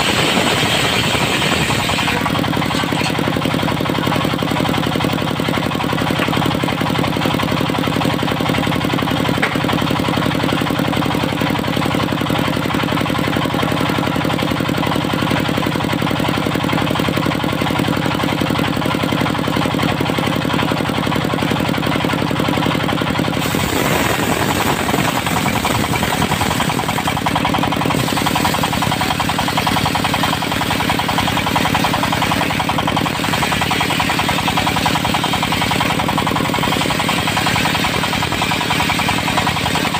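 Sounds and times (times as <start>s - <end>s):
motor engine running: 0.0s - 39.9s.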